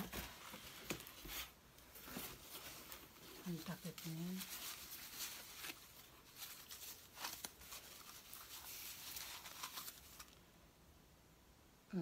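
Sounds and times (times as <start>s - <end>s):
packing paper rustling: 0.0s - 10.4s.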